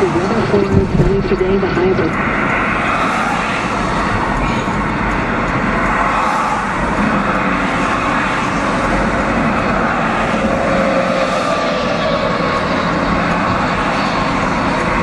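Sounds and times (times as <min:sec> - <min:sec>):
road and engine noise in cabin: 0:00.0 - 0:15.0.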